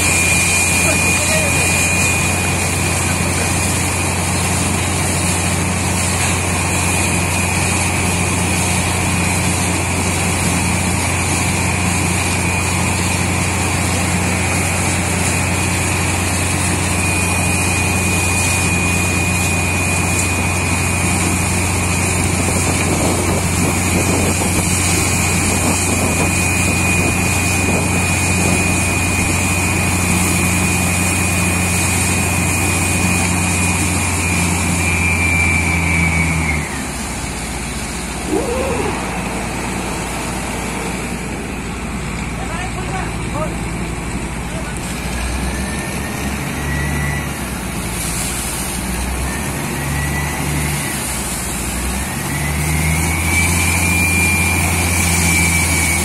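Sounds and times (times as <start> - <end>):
engine and compressor drone: 0.0 - 56.0
thin steady whine: 0.0 - 56.0.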